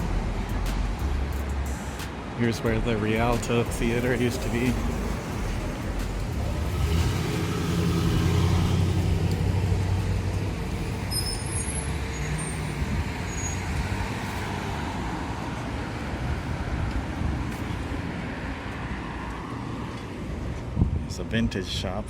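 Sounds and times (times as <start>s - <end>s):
passing vehicle engine hum: 0.0s - 20.8s
steady road noise: 0.0s - 22.0s.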